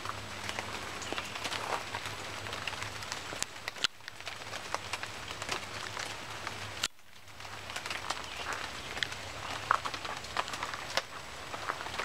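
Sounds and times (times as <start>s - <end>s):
rain hissing through foliage: 0.0s - 12.0s
raindrops ticking: 0.0s - 12.0s.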